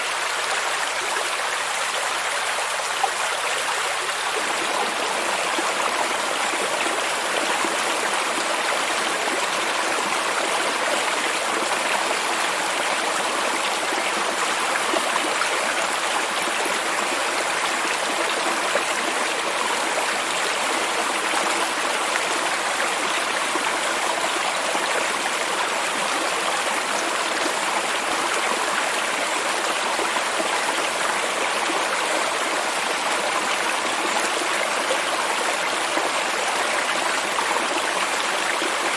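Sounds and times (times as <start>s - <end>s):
stream of flowing water: 0.0s - 38.9s.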